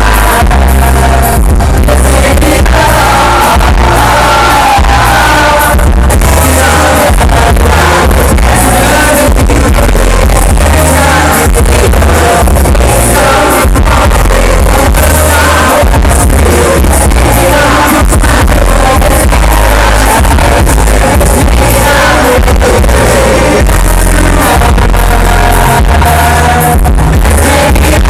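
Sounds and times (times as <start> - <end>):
amplified music with bass beat: 0.0 - 28.0
group singing pop song: 0.0 - 28.0.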